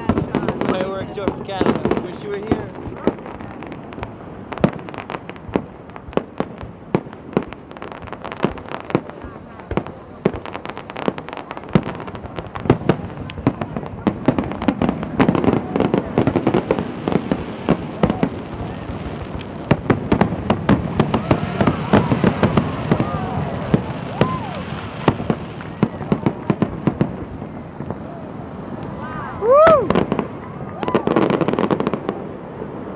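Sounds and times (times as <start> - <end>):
fireworks bangs and crackling: 0.0 - 32.9
whistling fireworks: 0.0 - 32.9.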